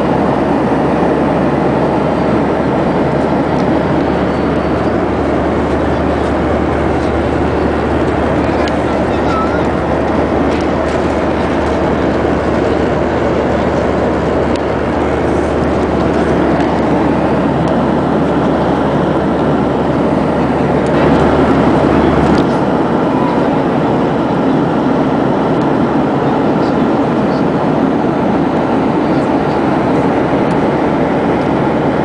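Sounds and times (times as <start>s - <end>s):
airplane cabin drone: 0.0s - 32.0s.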